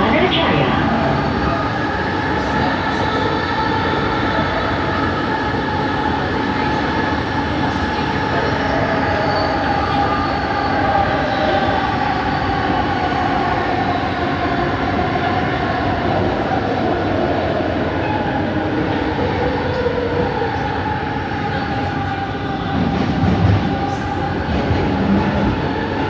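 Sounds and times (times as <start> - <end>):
train ride rumble: 0.0 - 26.0.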